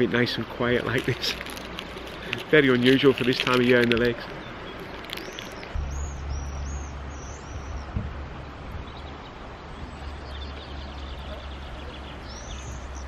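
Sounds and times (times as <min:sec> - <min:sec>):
steady low rumble: 0:00.4 - 0:13.0
small birds chirping: 0:01.0 - 0:13.0.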